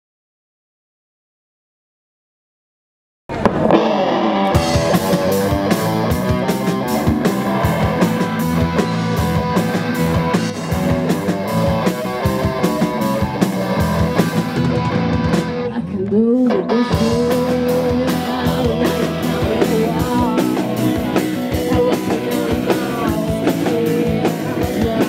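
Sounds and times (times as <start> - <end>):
drum kit beat: 3.3 - 15.8, 16.7 - 25.0
electric guitar chords: 3.3 - 25.0.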